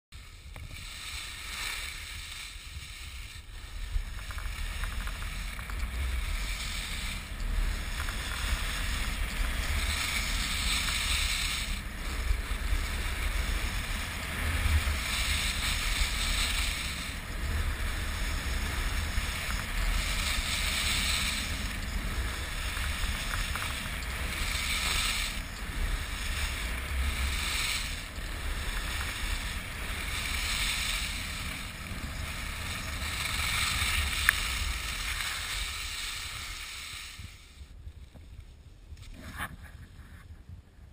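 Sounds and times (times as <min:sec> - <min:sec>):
skis carving snow: 0:00.1 - 0:40.4.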